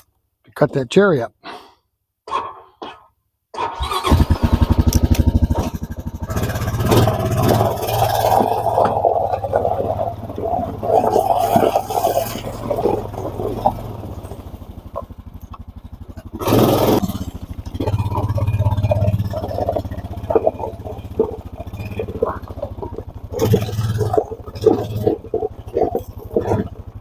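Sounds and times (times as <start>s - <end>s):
atv engine running: 3.8s - 27.0s
log clattering and scraping: 4.8s - 27.0s.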